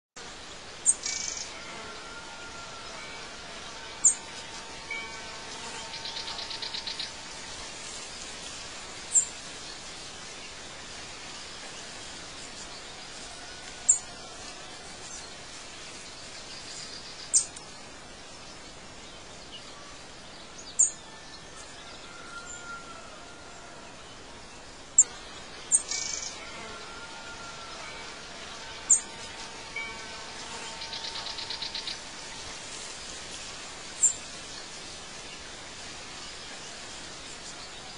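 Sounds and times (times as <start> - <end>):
steady background hiss: 0.2 - 37.9.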